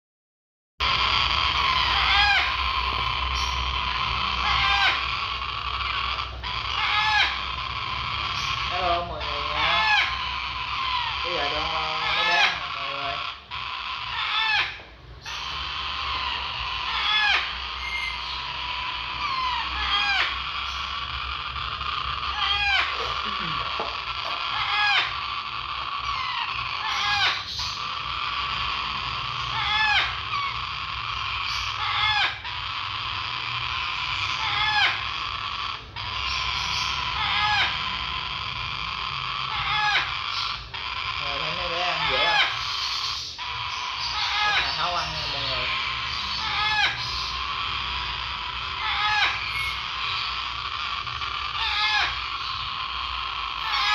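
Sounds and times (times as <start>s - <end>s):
baby parrots begging: 0.8s - 53.9s
loud downward-sliding calls: 0.8s - 53.9s
raspy chick cries: 0.8s - 53.9s.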